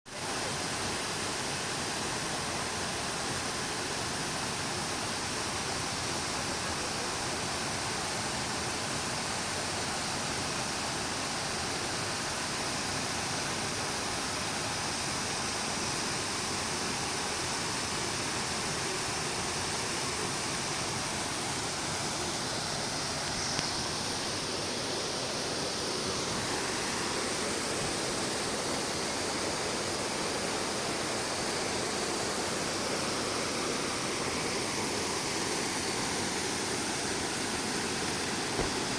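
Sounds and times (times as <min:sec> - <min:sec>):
water rushing: 0:00.1 - 0:38.9.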